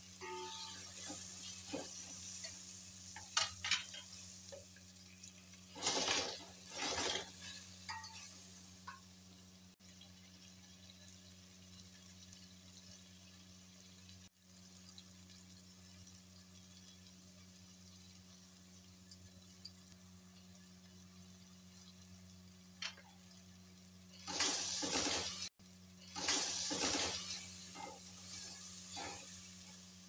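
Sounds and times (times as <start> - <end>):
onions frying in oil sizzling: 0.0 - 30.0.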